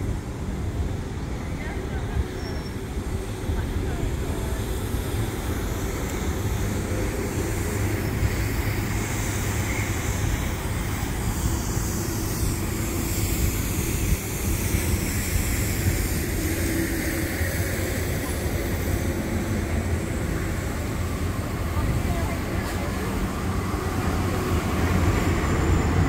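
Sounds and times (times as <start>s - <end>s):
low traffic rumble: 0.0s - 26.0s
tram moving on tracks: 0.0s - 26.0s.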